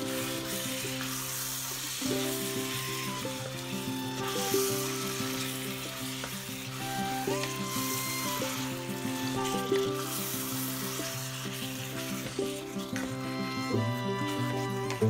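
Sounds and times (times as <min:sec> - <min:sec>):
background music: 0:00.0 - 0:15.0
meat sizzling in a pan: 0:00.0 - 0:15.0
wooden spatula stirring: 0:00.0 - 0:15.0.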